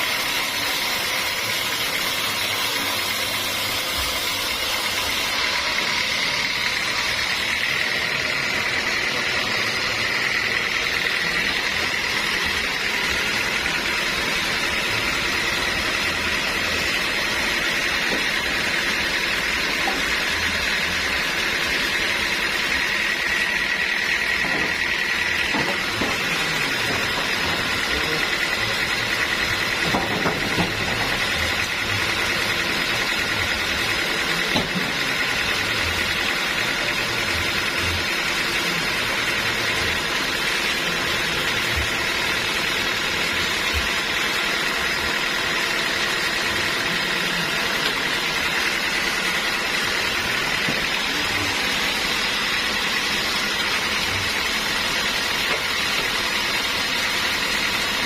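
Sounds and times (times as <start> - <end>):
band saw whining through wood: 0.0 - 58.0.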